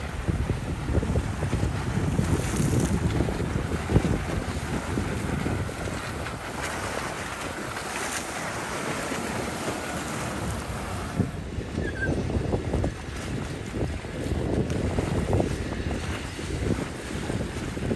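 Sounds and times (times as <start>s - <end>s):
water rushing and splashing: 0.0s - 17.9s
wind on microphone: 0.0s - 17.9s.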